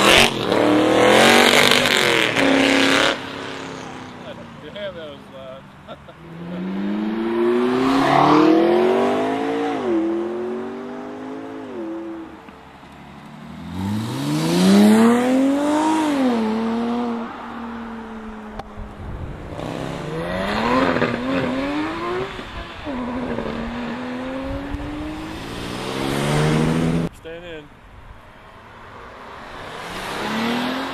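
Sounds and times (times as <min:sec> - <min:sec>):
sports car engines accelerating: 0:00.0 - 0:27.1, 0:28.8 - 0:30.9.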